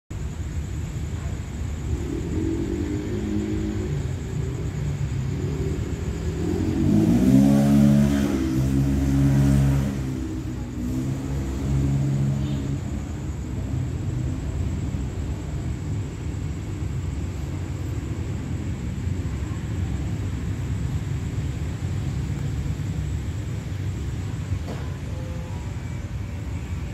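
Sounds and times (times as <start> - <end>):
vehicle engine revving: 1.8 - 24.2.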